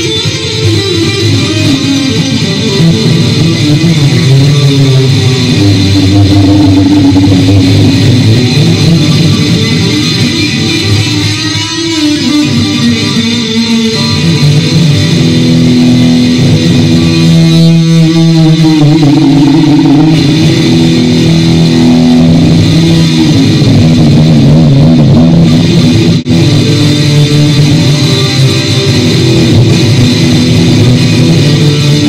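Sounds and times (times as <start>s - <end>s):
bass guitar: 0.0s - 32.0s
electric guitar: 0.0s - 32.0s.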